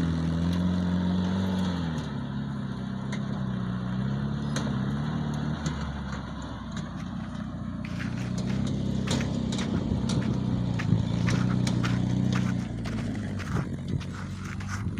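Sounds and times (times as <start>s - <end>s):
tractor engine running: 0.0s - 14.9s.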